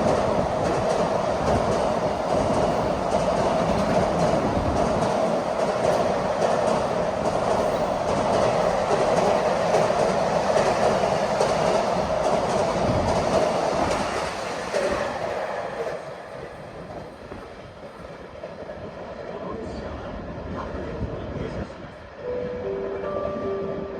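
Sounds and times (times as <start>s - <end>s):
freight train rumbling: 0.0s - 23.9s.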